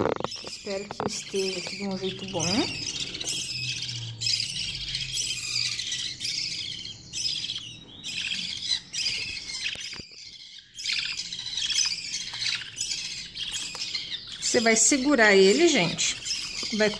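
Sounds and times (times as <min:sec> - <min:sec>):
budgerigar chicks begging calls: 0:00.0 - 0:16.9.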